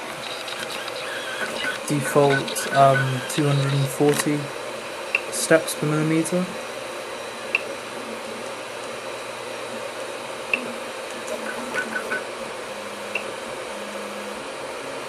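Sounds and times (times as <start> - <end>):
printer fans whirring: 0.0 - 15.0
stepper motor tones: 0.0 - 15.0.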